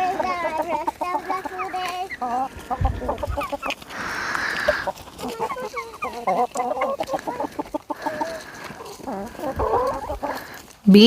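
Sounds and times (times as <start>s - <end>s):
chickens clucking: 0.0s - 10.8s
rustling noise: 0.0s - 11.0s.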